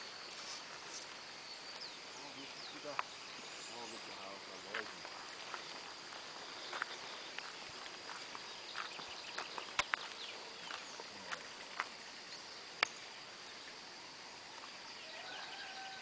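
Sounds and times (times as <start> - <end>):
birds chirping: 0.0 - 16.0
high insect drone: 0.0 - 16.0.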